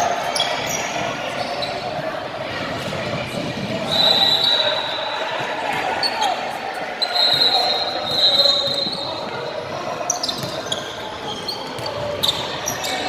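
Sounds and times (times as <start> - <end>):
sneaker squeaks on floor: 0.3 - 2.0, 3.9 - 13.0.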